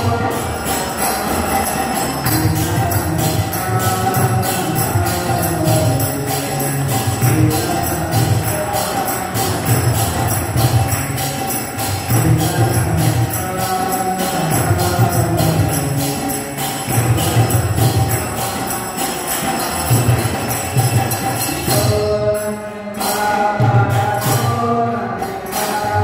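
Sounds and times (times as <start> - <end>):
hand cymbals clashing: 0.0 - 26.0.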